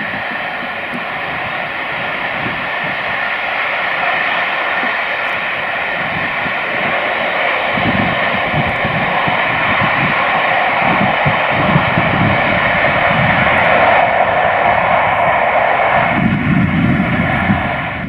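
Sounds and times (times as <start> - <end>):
low rumbling beats: 0.0 - 18.0
roar of motorway traffic: 0.0 - 18.0
steam locomotive running past: 0.0 - 18.0.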